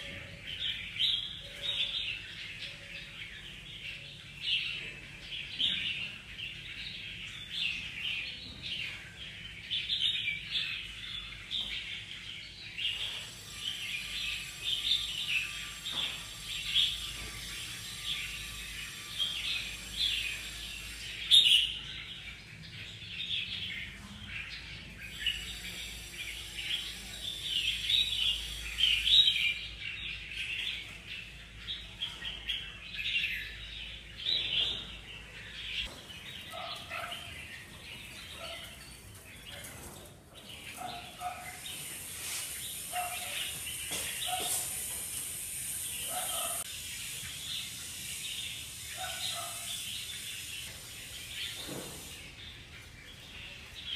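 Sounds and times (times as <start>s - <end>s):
many birds chirping: 0.0s - 53.9s.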